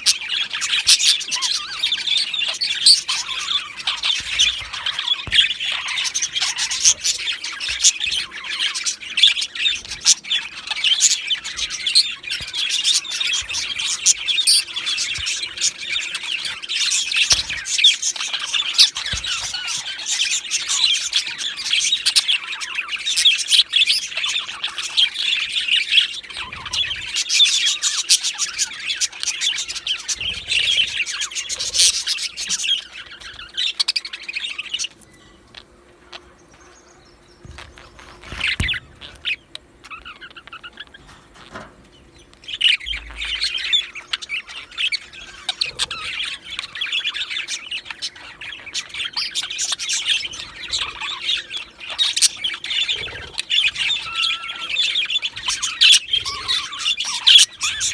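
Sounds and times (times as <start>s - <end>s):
budgerigars chattering and warbling: 0.0s - 57.9s.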